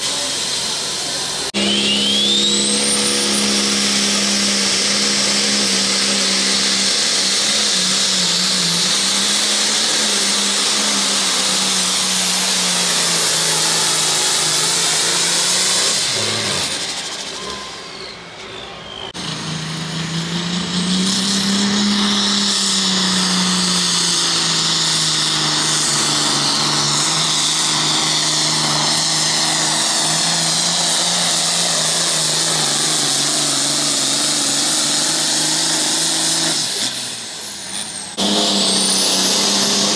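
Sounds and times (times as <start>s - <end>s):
high-revving tractor engine: 0.0s - 39.9s.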